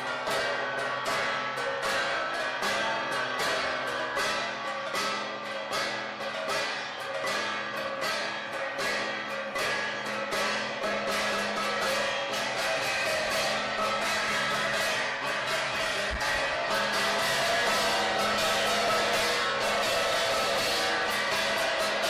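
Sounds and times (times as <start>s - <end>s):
percussive beat of sharp strikes: 0.0s - 22.0s.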